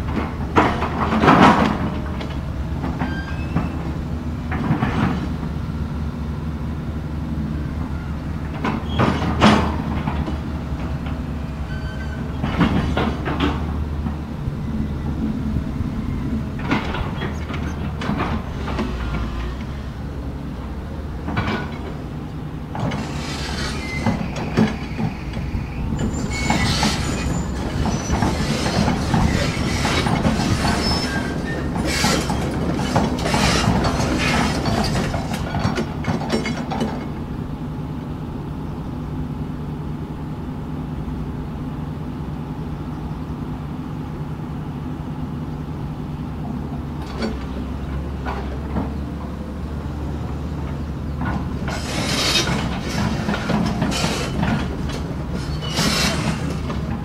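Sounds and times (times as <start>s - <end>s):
steel tracks clanking and squeaking: 0.0s - 57.0s.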